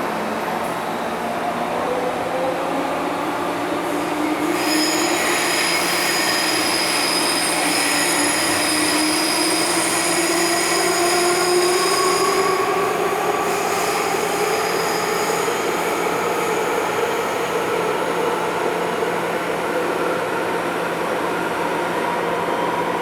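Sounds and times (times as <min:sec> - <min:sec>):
metro train running: 0:00.0 - 0:23.0.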